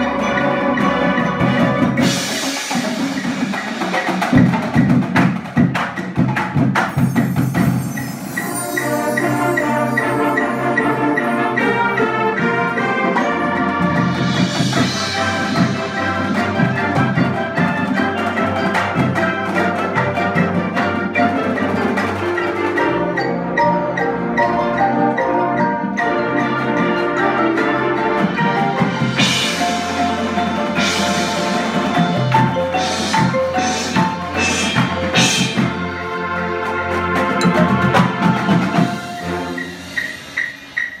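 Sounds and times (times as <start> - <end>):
marimbas and vibraphones: 0.0 - 41.0.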